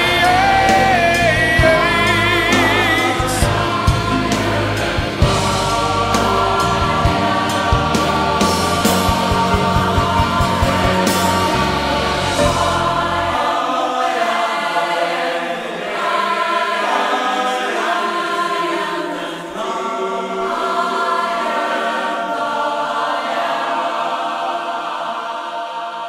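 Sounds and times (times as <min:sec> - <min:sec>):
choir singing held chords: 0:00.0 - 0:26.0.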